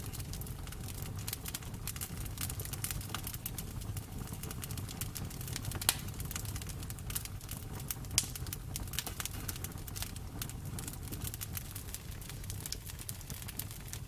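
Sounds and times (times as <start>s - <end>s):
bonfire rumbling and crackling: 0.0s - 14.0s
sharp fire pops: 0.0s - 14.0s.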